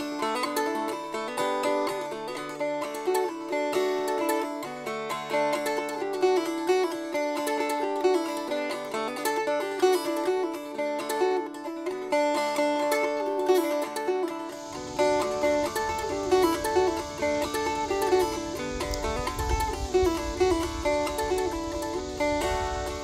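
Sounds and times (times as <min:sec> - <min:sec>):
plucked string music: 0:00.0 - 0:23.0.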